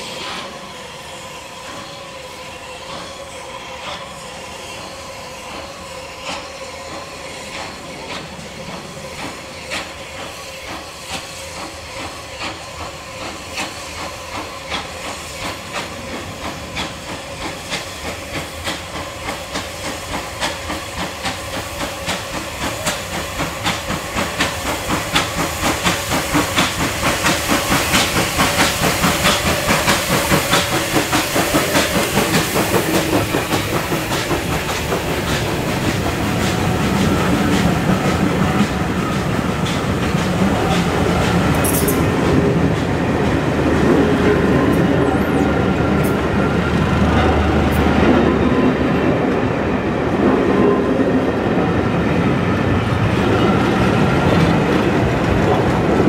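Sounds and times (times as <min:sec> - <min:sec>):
hiss of steam: 0:00.0 - 0:55.9
steam locomotive exhaust beats: 0:00.0 - 0:56.0.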